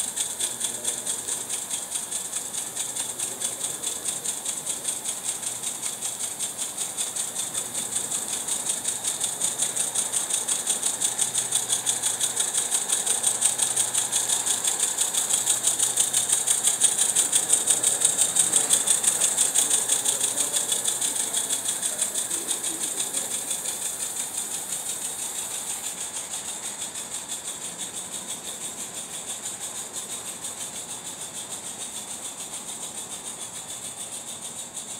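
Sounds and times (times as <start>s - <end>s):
model steam locomotive chuffing: 0.0s - 34.9s
steam hissing: 0.0s - 34.9s.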